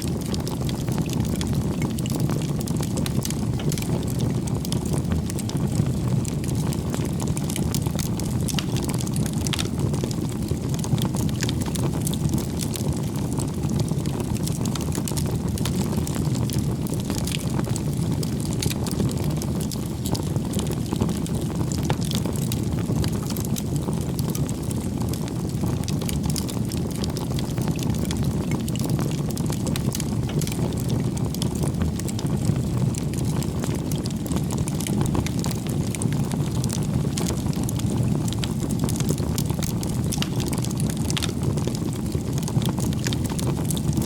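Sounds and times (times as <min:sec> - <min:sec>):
campfire flames rushing: 0:00.0 - 0:44.0
firewood crackling and popping: 0:00.0 - 0:44.0.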